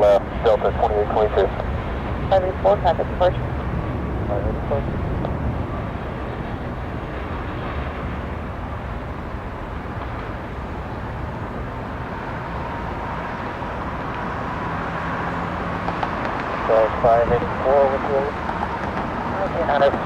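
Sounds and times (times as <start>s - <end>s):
airliner engine rumbling: 0.0s - 20.0s.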